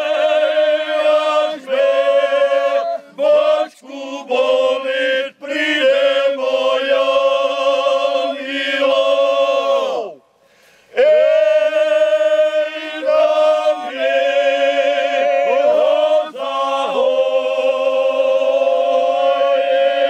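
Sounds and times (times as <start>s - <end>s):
men's group singing in harmony: 0.0s - 10.2s, 10.9s - 20.0s.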